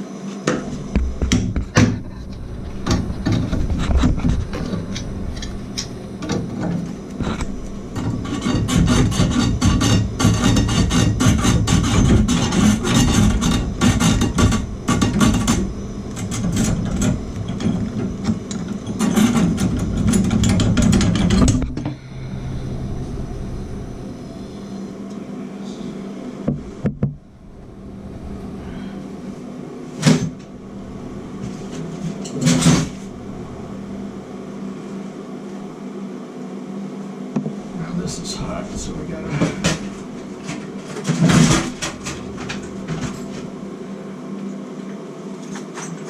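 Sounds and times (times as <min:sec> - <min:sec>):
gas torch roaring: 0:00.0 - 0:45.8
low steady hum: 0:00.0 - 0:46.0.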